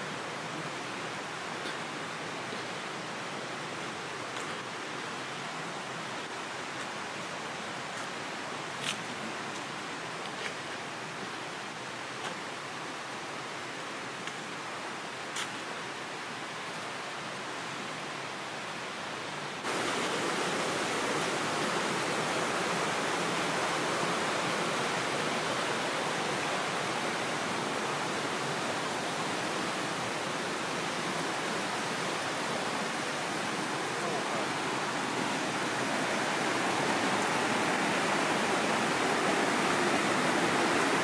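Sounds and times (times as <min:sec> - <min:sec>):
mountain stream and waterfall: 0:00.0 - 0:41.0.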